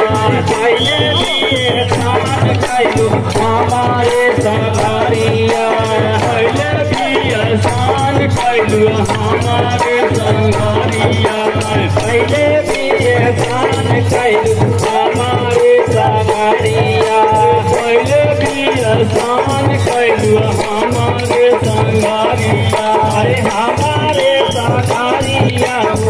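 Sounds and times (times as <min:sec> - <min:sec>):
drum beating steadily: 0:00.0 - 0:26.0
rattling clacking percussion: 0:00.0 - 0:26.0.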